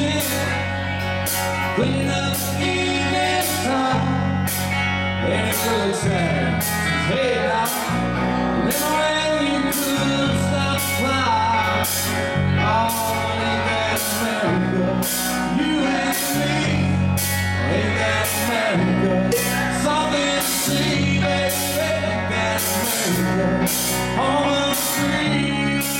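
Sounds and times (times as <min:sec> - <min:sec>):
live rock band playing: 0:00.0 - 0:25.9
person singing: 0:00.0 - 0:25.9.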